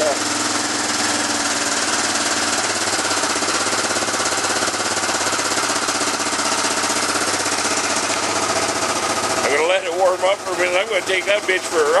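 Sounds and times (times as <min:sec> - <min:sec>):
engine idling with rapid beat: 0:00.0 - 0:12.0.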